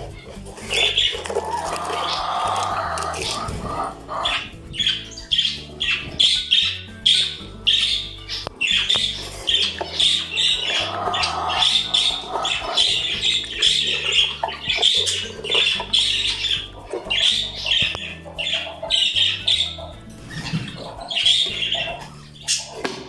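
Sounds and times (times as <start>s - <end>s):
parrot squawking: 0.0s - 22.9s.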